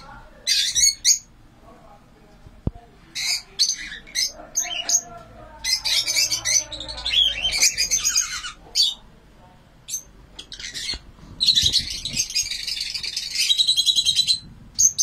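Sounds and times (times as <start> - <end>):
lovebirds chattering: 0.0 - 1.4, 2.7 - 15.0.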